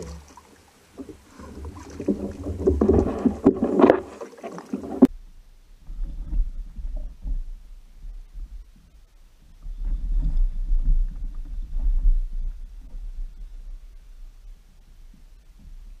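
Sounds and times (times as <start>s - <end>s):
low uneven rumbling: 0.0s - 16.0s.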